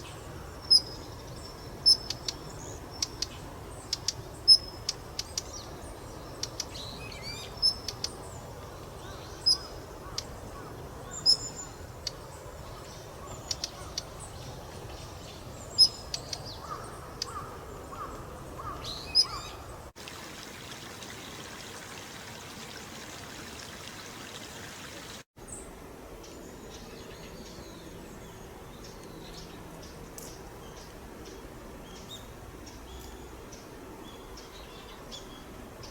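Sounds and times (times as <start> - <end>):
outdoor background hiss: 0.0 - 35.9.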